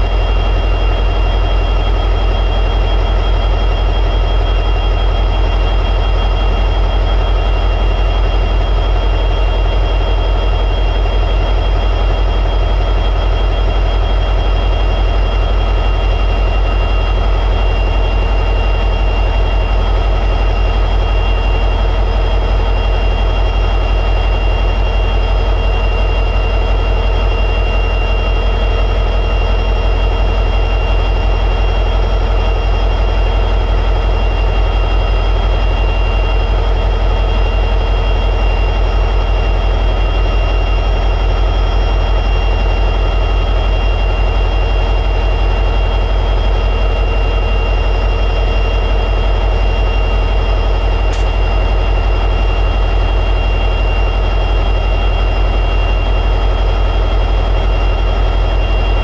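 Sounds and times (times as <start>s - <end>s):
diesel locomotive idling: 0.0s - 59.0s.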